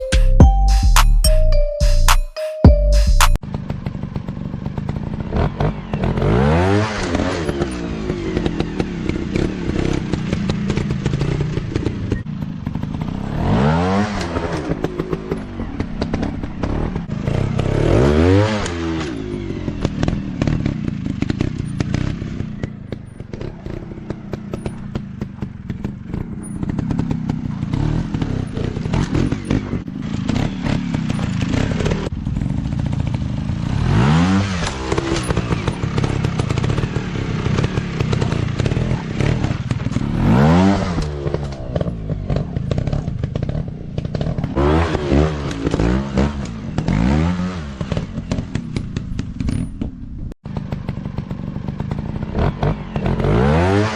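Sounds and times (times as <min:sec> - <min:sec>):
dirt bike engine revving: 0:03.4 - 0:49.8, 0:50.5 - 0:53.9.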